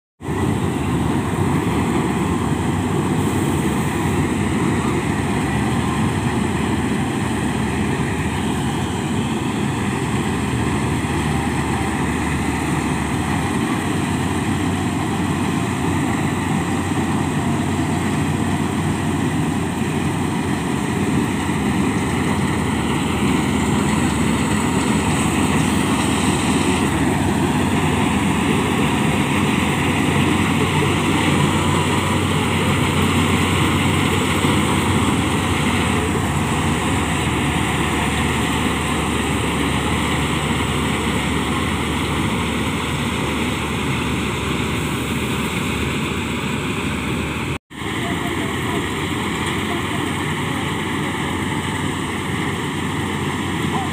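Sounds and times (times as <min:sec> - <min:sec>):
combine harvester droning: 0:00.2 - 0:53.9.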